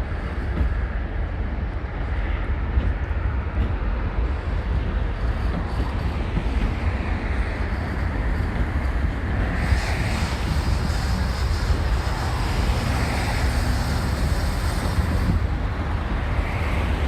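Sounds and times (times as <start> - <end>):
diesel train rumbling past: 0.0 - 17.0.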